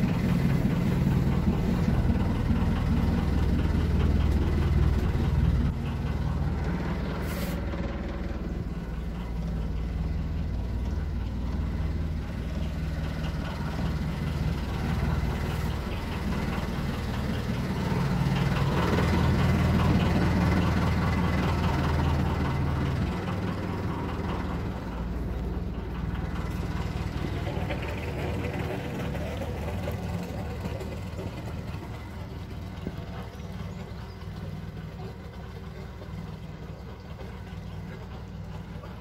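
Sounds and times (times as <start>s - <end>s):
boat engine idling: 0.0s - 39.0s.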